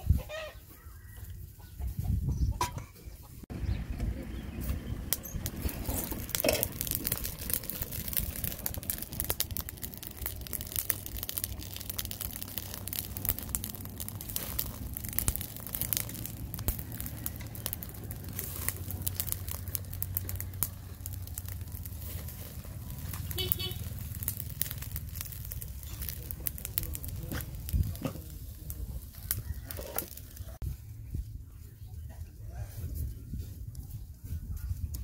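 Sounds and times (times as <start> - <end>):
charcoal fire crackling: 3.4 - 32.1.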